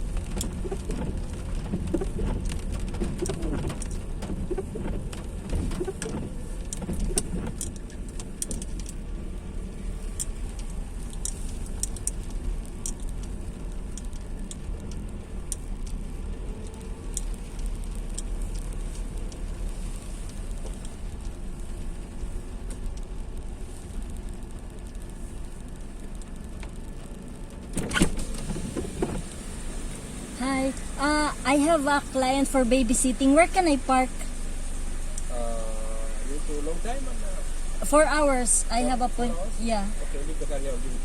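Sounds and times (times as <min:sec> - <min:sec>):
car rumbling in rain: 0:00.0 - 0:41.0
raindrops ticking: 0:00.0 - 0:41.0.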